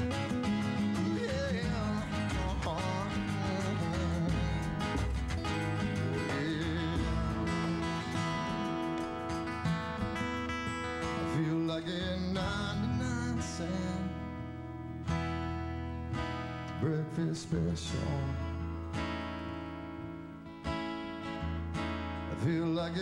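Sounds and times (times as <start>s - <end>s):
acoustic guitar picked and strummed: 0.0s - 23.0s.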